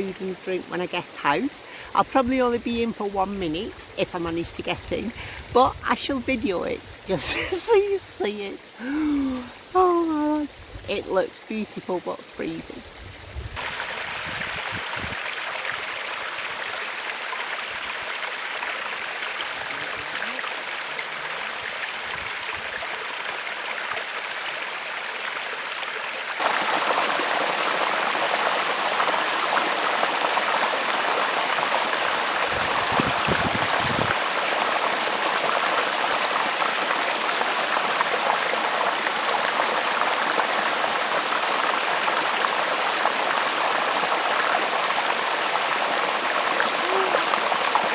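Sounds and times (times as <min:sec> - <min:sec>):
stream rushing over rocks: 0:06.8 - 0:47.9.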